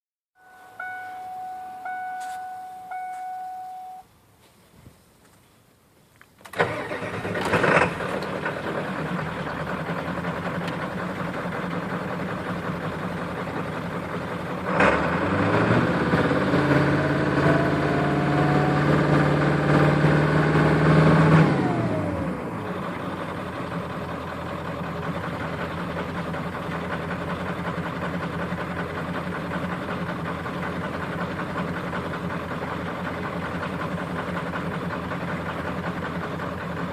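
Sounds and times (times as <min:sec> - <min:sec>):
diesel engine idling: 0:00.4 - 0:04.0, 0:06.5 - 0:36.9
diesel engine starting: 0:06.4 - 0:36.9
diesel engine revving: 0:06.5 - 0:36.9.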